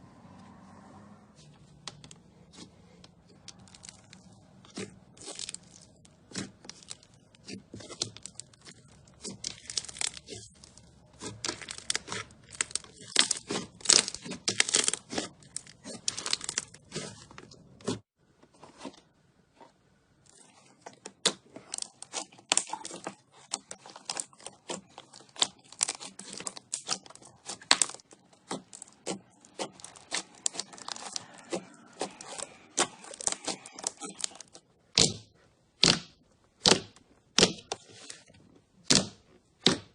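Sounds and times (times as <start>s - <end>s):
slime squeezed crackling and popping: 3.3s - 17.4s, 20.3s - 38.1s.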